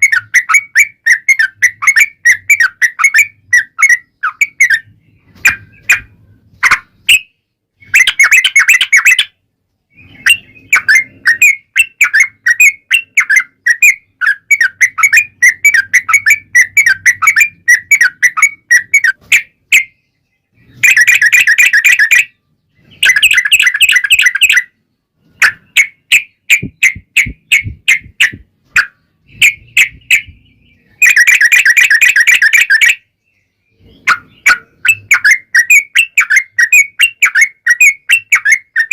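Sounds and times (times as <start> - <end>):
bulbul singing quick chirps and trills: 0.0 - 38.9.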